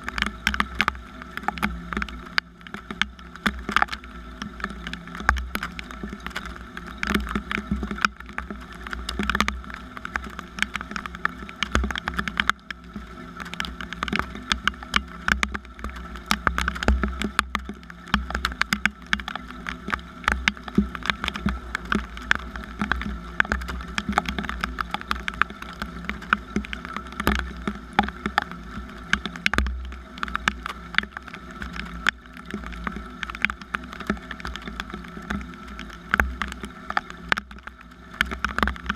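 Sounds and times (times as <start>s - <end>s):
low steady rumble and hum: 0.0s - 38.9s
rain drops on hard surfaces: 0.0s - 38.9s.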